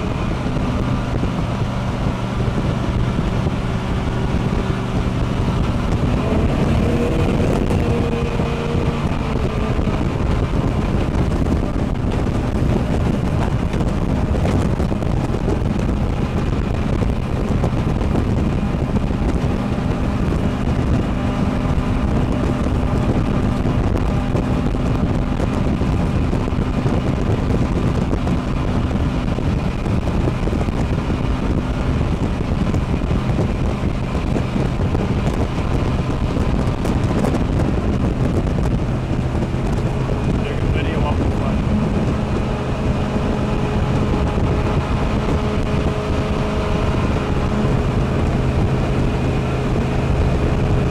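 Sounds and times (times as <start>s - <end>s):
boat engine running: 0.0s - 50.9s
wind buffeting microphone: 0.0s - 50.9s.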